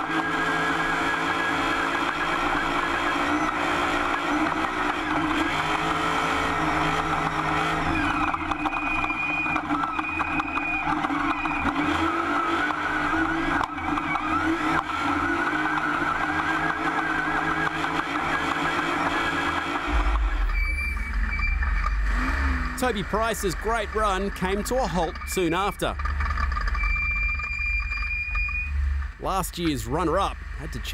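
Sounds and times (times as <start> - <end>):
race car engine running hard: 0.0 - 27.5, 28.8 - 30.9.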